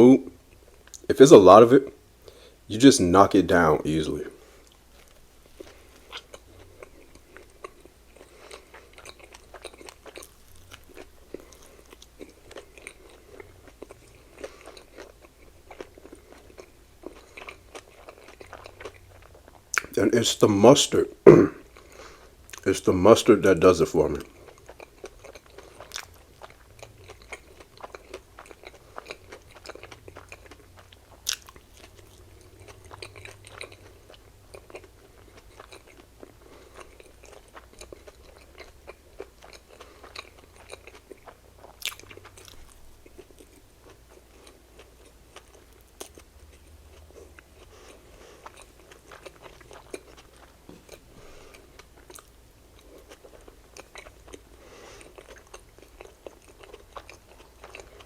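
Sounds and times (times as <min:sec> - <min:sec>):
person chewing: 0:04.4 - 0:20.0, 0:21.3 - 0:22.7, 0:24.0 - 0:58.0.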